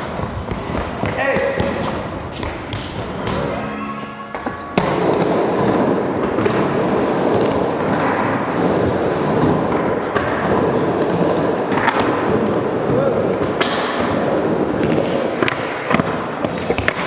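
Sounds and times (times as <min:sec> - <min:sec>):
skateboard wheels rolling: 0:00.0 - 0:17.0.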